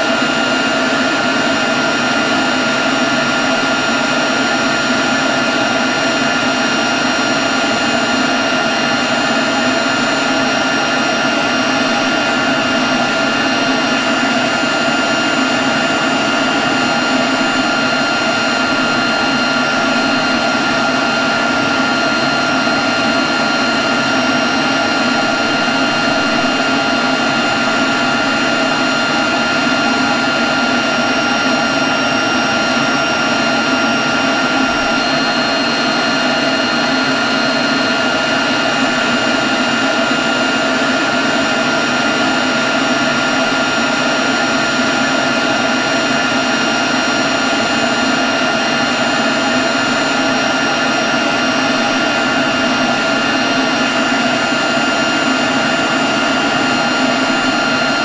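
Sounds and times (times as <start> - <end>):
leaf blower running: 0.0 - 58.0.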